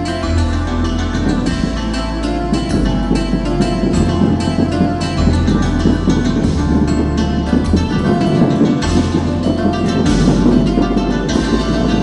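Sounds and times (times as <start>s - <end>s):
flamenco guitar music: 0.0s - 12.0s.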